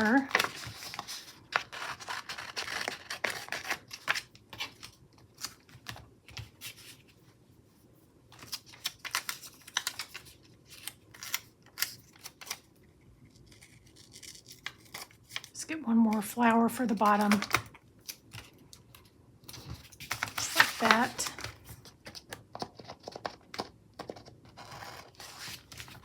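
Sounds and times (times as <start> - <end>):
paper stickers crackling and rustling: 0.0 - 7.1, 8.3 - 12.7, 13.4 - 26.0.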